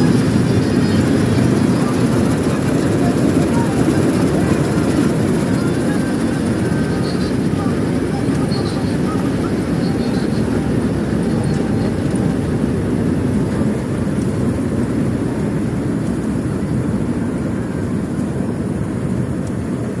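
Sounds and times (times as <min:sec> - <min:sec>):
harvesting machine engine running: 0:00.0 - 0:17.0.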